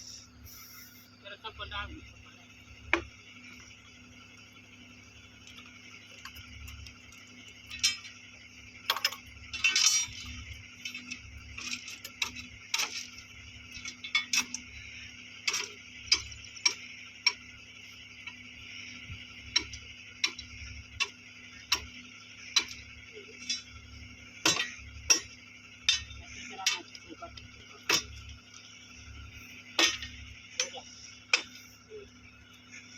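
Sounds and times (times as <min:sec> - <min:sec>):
faint background hum: 0:00.0 - 0:32.9.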